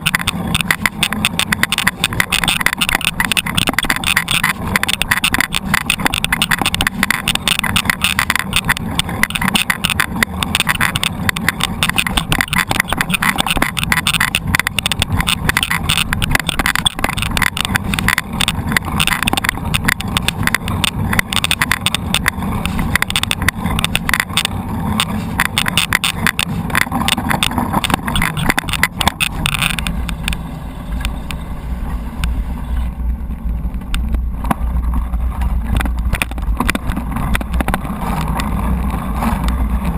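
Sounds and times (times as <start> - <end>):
mountain bike rattling and clattering: 0.0 - 39.9
wind rumble on microphone: 0.0 - 39.9.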